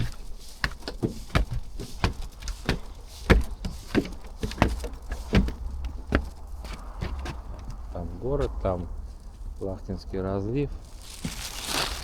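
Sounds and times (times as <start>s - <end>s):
footsteps walking: 0.0s - 9.7s, 10.7s - 12.0s.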